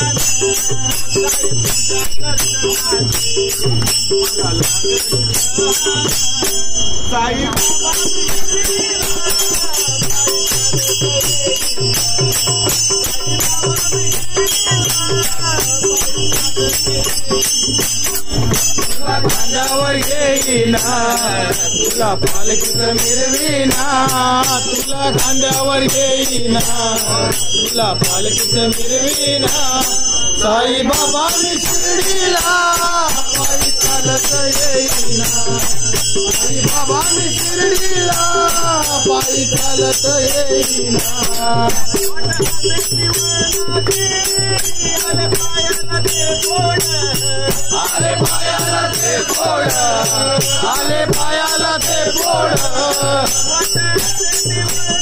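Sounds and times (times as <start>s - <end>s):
hand cymbals beating: 0.0s - 55.0s
men singing devotional song: 0.0s - 55.0s.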